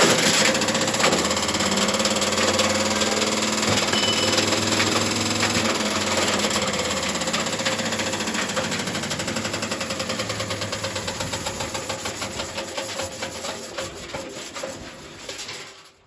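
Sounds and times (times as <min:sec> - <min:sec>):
washing machine motor humming: 0:00.0 - 0:13.6
metal rattling and banging in drum: 0:00.0 - 0:16.0.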